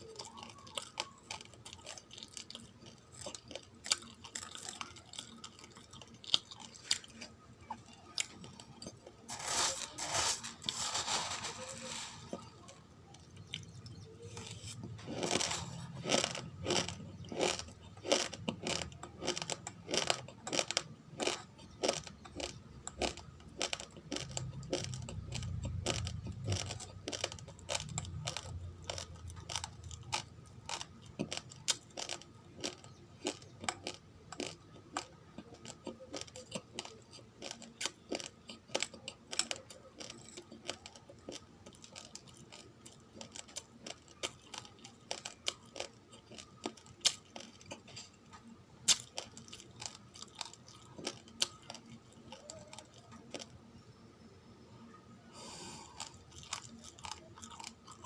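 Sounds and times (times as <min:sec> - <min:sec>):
chewing raw rice crunches: 0:00.0 - 0:53.6, 0:55.4 - 0:58.0.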